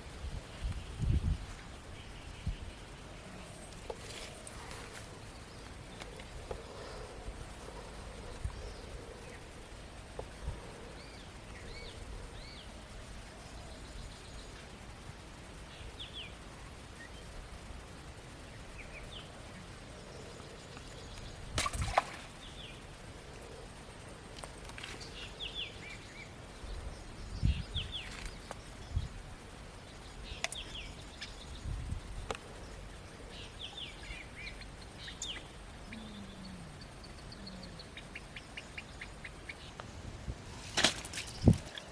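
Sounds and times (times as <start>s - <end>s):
small birds chirping: 0.3s - 41.9s.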